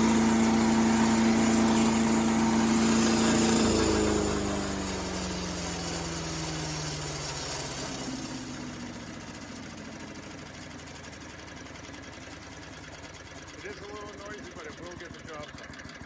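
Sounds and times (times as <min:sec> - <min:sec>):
engine winding down: 0:00.0 - 0:16.0.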